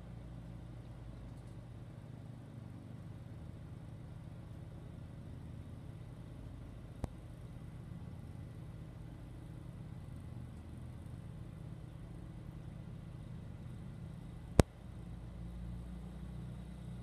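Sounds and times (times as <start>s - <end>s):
snowblower engine running: 1.8s - 17.0s.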